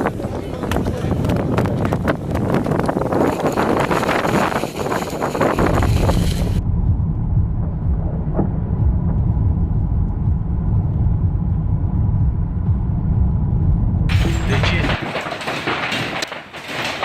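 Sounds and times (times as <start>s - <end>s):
wind buffeting microphone: 0.0s - 14.1s.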